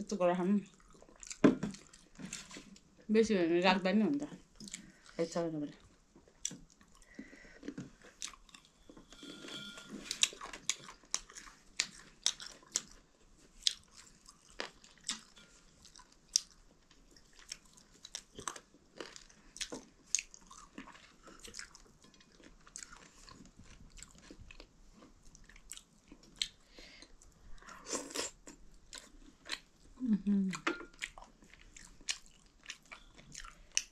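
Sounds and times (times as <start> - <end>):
chewing with mouth clicks: 0.7 - 2.8, 4.5 - 5.2, 5.8 - 9.0, 10.1 - 29.9, 30.5 - 33.9.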